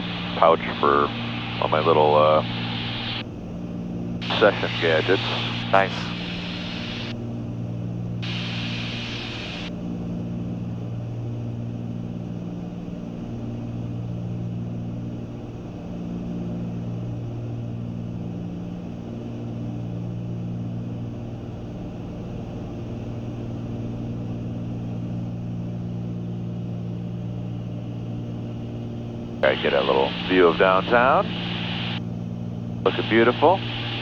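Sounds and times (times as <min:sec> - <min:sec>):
aircraft engines and propellers droning: 0:00.0 - 0:34.0.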